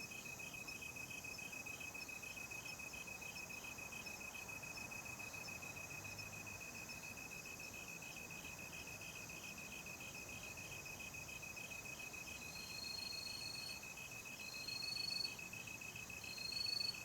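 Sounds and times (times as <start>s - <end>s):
faint insect hiss: 0.0s - 17.0s
pulsing cricket chirps: 0.1s - 17.0s.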